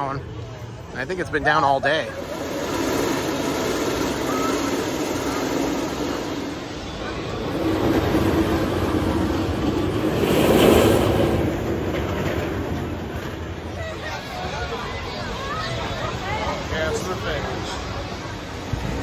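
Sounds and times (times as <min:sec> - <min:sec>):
roller coaster train rumbling: 0:00.0 - 0:19.0.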